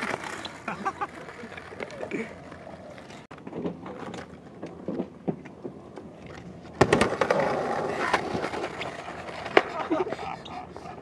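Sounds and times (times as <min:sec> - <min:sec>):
skateboard clattering on ground: 0:00.0 - 0:10.2
skateboard wheels rolling: 0:00.0 - 0:11.0.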